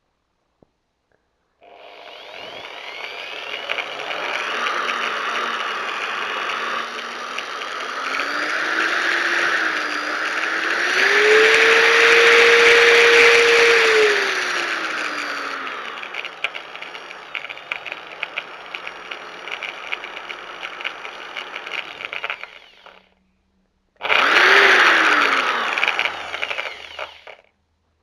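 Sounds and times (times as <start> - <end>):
rattly whir of spinning cable: 1.6 - 23.1, 24.0 - 27.5
electric drill whining: 1.6 - 23.2, 24.0 - 27.5.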